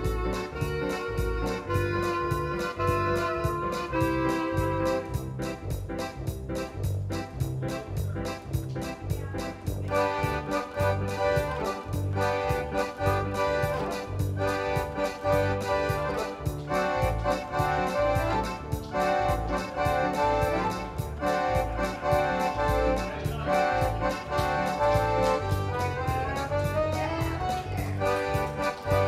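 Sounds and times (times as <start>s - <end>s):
accordion music with beat: 0.0s - 29.0s.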